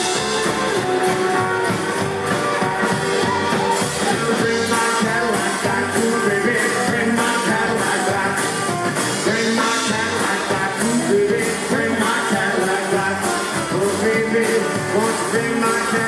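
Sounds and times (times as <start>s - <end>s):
acoustic guitar: 0.0s - 16.0s
drums: 0.0s - 16.0s
electric guitar: 0.0s - 16.0s
upright bass: 0.0s - 16.0s.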